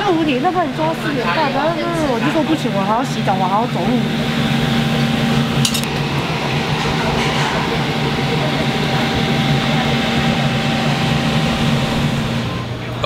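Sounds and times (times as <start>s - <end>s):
low mechanical hum: 0.0s - 13.0s
thin steady whine: 0.0s - 13.0s.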